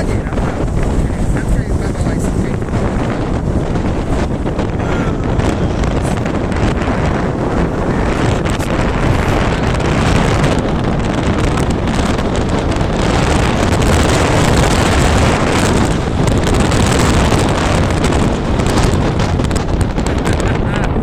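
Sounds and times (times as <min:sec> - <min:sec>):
car driving: 0:00.0 - 0:21.0
wind buffeting microphone: 0:00.0 - 0:21.0.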